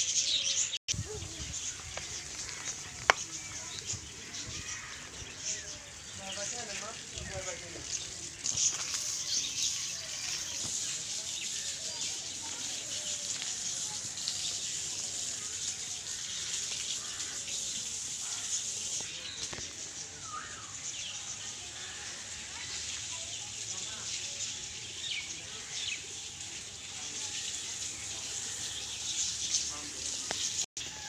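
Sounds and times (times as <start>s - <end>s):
birds chirping and twittering: 0.0s - 31.0s.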